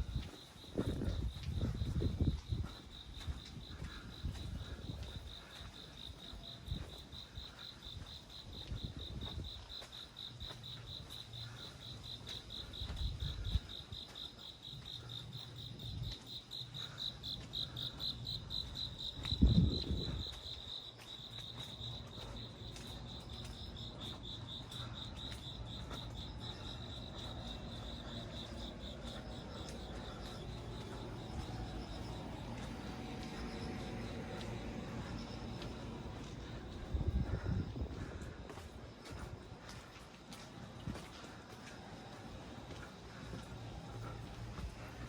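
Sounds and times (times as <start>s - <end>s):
cricket chirping: 0.0s - 45.0s.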